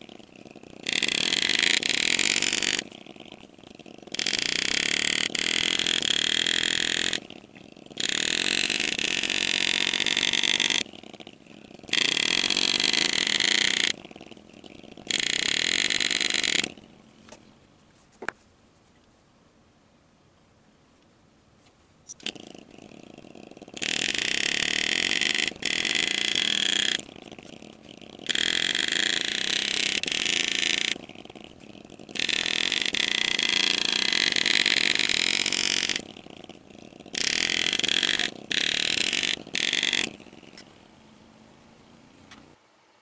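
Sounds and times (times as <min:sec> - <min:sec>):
buzzing power tool: 0:00.0 - 0:16.9, 0:22.2 - 0:41.4
low steady hum: 0:00.0 - 0:43.0.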